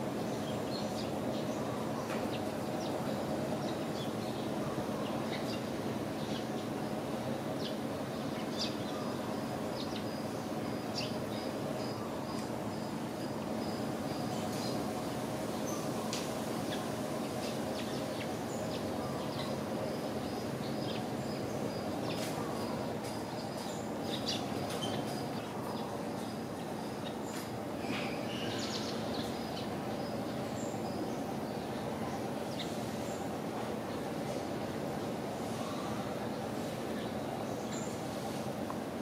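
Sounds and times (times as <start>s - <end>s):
outdoor background hum: 0.0s - 39.0s.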